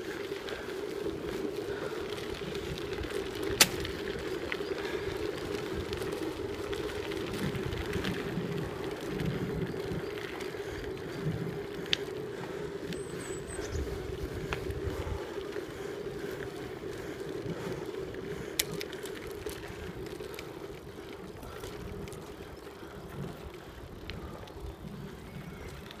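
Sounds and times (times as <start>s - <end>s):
wheels rolling over gravel: 0.0s - 26.0s.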